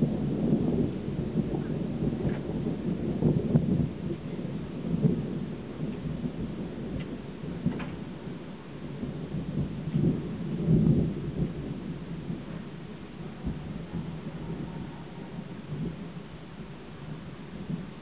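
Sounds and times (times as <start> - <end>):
rolling thunder: 0.0 - 18.0.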